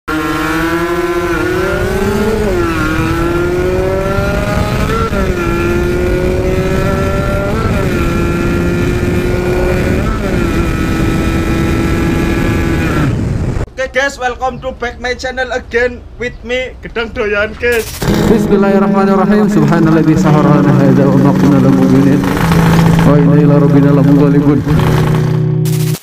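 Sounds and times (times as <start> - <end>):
motorcycle engine accelerating: 0.1 - 13.7, 17.8 - 26.0.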